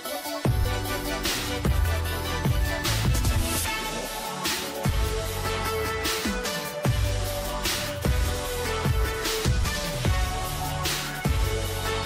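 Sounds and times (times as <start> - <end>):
hi-hat: 0.0 - 12.0.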